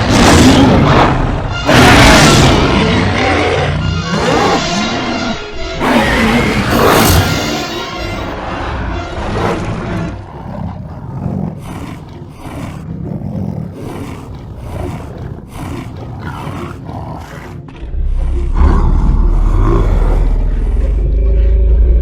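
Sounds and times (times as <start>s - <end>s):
roar sound effects: 0.0s - 22.0s.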